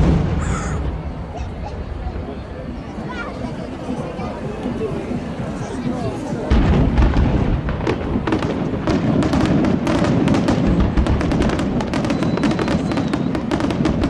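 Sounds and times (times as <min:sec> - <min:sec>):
firework bangs and crackles: 0:00.0 - 0:14.0
low rumble of detonations: 0:00.0 - 0:14.0.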